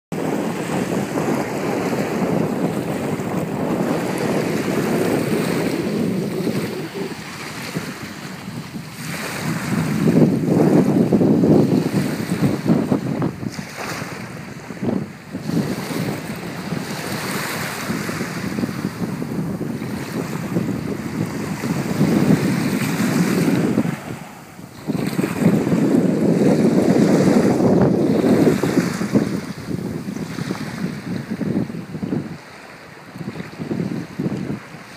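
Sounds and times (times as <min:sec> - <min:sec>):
wind buffeting microphone: 0:00.1 - 0:34.9
surf washing onto beach: 0:00.2 - 0:34.9.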